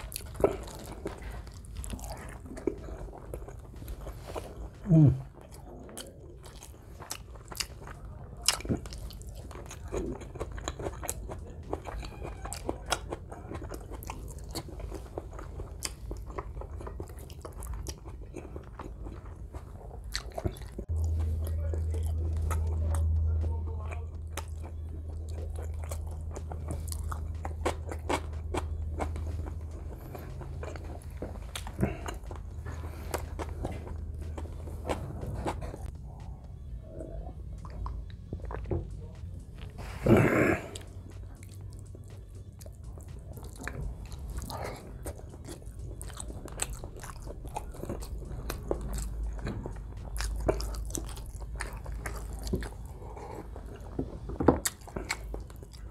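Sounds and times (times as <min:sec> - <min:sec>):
close chewing with mouth clicks: 0:00.0 - 0:55.9
low steady hum: 0:00.0 - 0:55.9.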